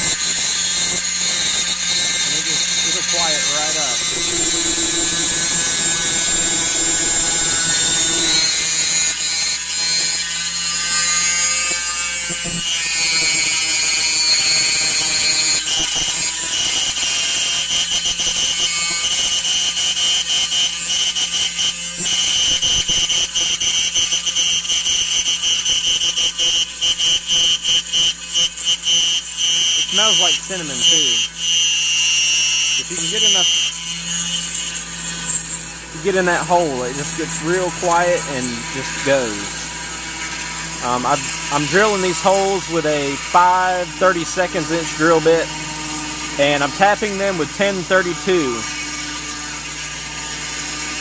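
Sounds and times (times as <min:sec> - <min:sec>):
router drilling whine: 0:00.0 - 0:51.0.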